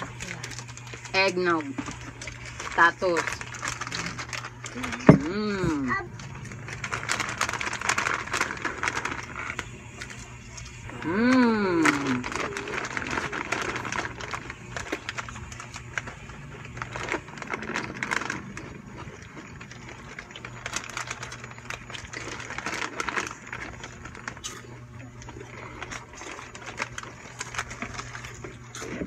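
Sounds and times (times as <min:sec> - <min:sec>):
low hum: 0:00.0 - 0:29.0
snack wrapper crinkling: 0:00.0 - 0:29.0
snack crunching: 0:03.4 - 0:04.8, 0:06.1 - 0:10.9, 0:11.9 - 0:29.0.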